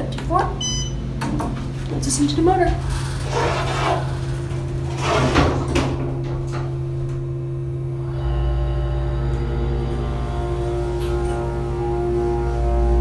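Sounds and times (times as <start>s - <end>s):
hydraulic pump motor humming: 0.4s - 13.0s
elevator doors sliding shut: 1.2s - 13.0s.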